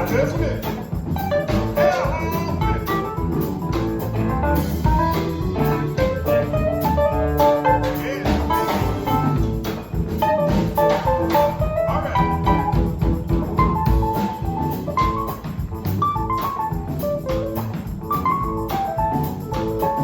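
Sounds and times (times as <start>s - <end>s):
bass: 0.0s - 20.0s
drum kit steady beat: 0.0s - 20.0s
melodic guitar line: 0.0s - 20.0s.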